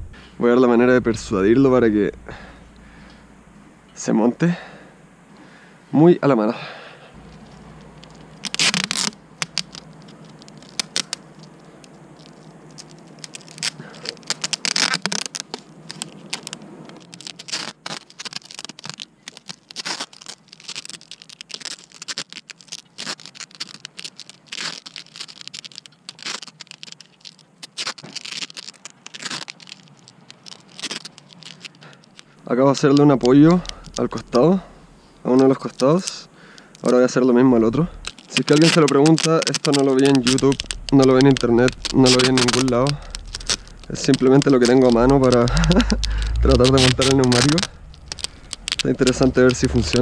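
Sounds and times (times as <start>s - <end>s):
tape tugs and crackles: 0.0s - 5.7s, 6.6s - 50.0s
tape pulled off roll: 7.2s - 50.0s.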